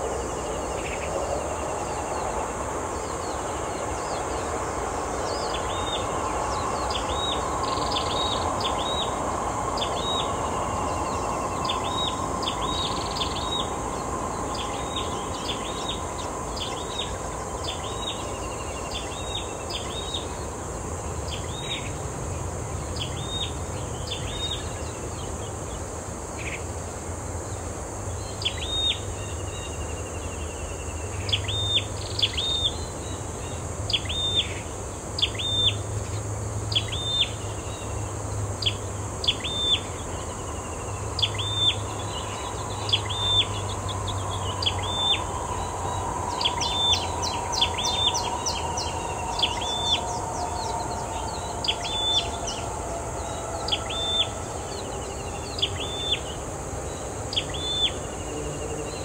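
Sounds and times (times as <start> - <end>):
high-pitched insect drone: 0.0 - 59.0
outdoor background hiss: 0.0 - 59.0.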